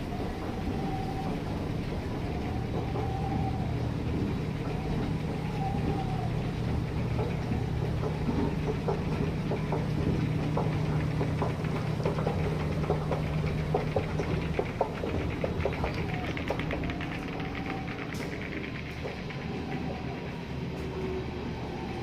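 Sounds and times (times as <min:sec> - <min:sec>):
escalator mechanical hum: 0:00.0 - 0:22.0
escalator steps clicking: 0:00.0 - 0:22.0
faint drawn-out squeals: 0:00.0 - 0:22.0.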